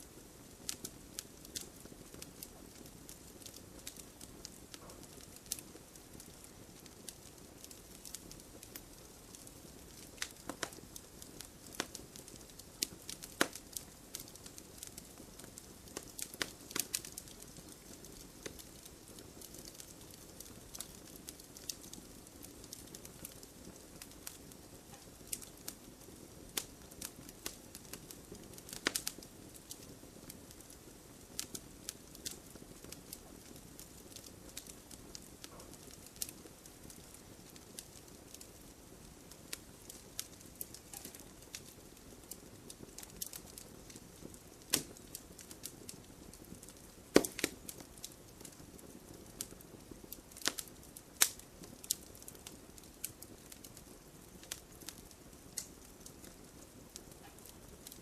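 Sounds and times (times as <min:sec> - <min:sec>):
campfire crackling: 0:00.0 - 0:58.0
fire pops and snaps: 0:00.0 - 0:58.0.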